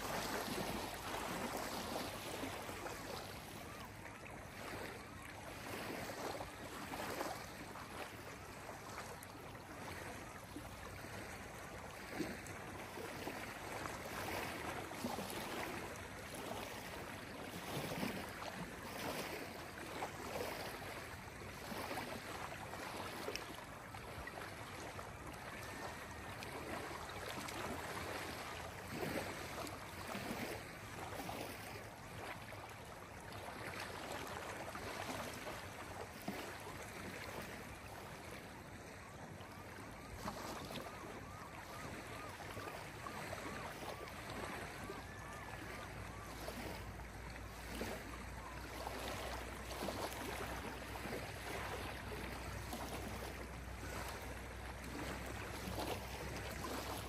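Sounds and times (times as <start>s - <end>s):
small waves lapping on gravel: 0.0s - 57.0s.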